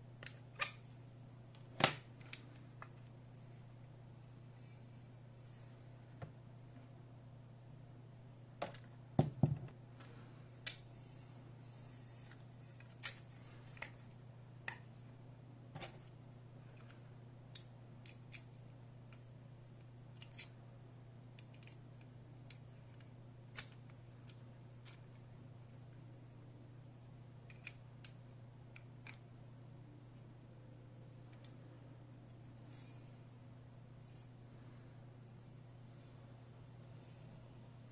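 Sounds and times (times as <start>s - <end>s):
faint low hum: 0.0s - 37.9s.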